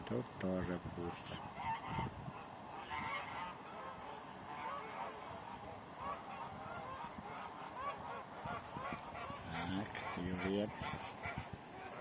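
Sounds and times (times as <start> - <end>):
geese honking: 1.5 - 12.0.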